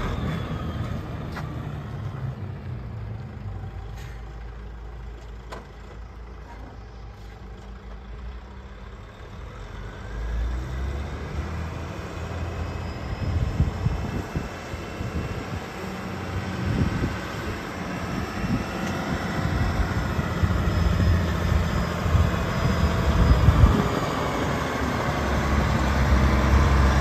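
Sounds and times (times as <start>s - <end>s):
rising engine whine: 0.0s - 27.0s
truck diesel engine rumble: 0.0s - 27.0s.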